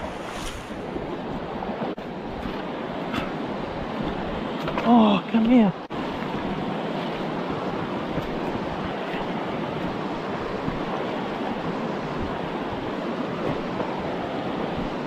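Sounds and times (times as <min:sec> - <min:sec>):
river rushing over rocks: 0:02.2 - 0:15.0.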